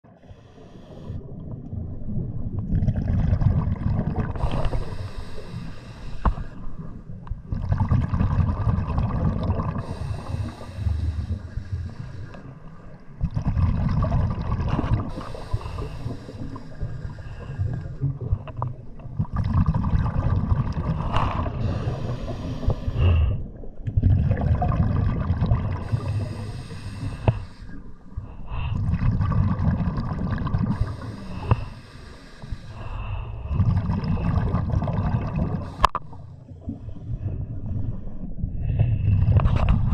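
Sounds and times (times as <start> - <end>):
diver exhaling bubbles underwater: 1.1 - 5.6, 6.3 - 12.0, 13.2 - 27.6, 28.6 - 36.9.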